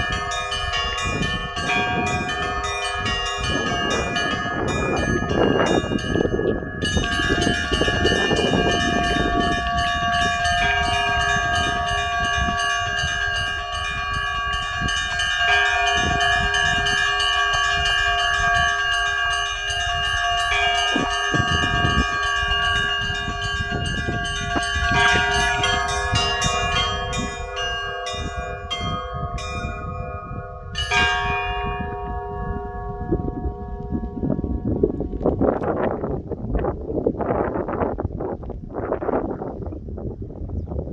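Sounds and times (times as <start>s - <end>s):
church bells ringing: 0.0s - 36.2s.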